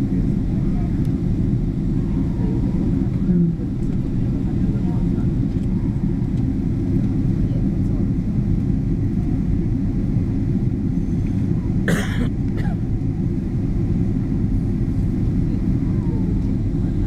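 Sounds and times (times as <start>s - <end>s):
airliner cabin roar: 0.0s - 17.0s.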